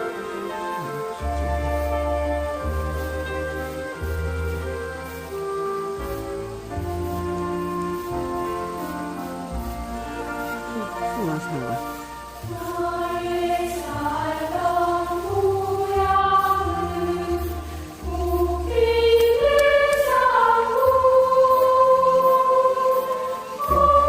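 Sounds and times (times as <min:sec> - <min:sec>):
choir-like singing: 0:00.0 - 0:24.0.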